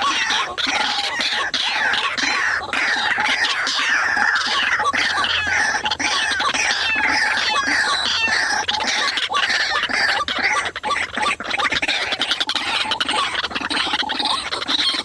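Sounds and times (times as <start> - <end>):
waterhens calling: 0.0 - 15.0.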